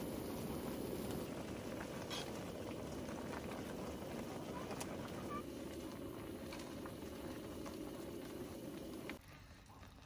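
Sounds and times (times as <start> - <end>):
liquid boiling in a pot: 0.0 - 10.0.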